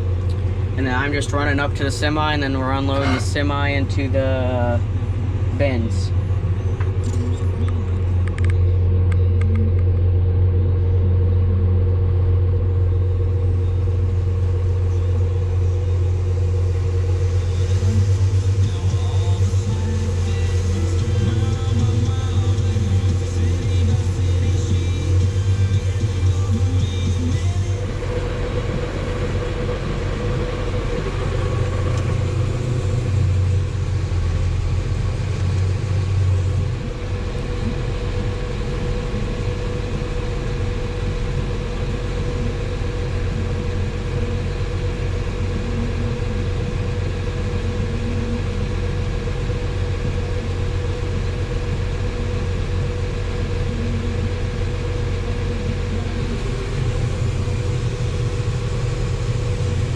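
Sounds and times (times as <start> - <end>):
farm machine engine droning: 0.0 - 59.9.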